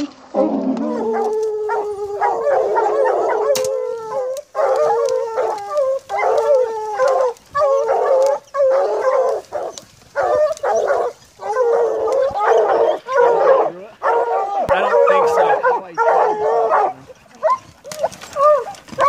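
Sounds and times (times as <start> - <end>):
hounds baying: 0.3 - 19.0.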